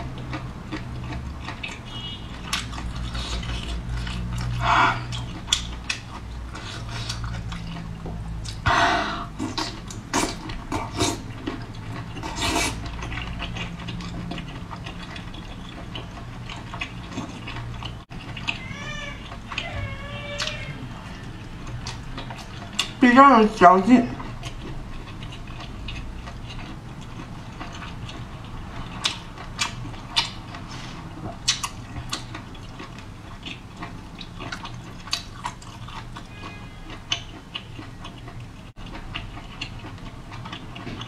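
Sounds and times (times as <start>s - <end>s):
bites and slurps: 0.0s - 23.0s, 24.2s - 41.0s
person chewing wetly: 0.0s - 23.0s, 24.1s - 41.0s.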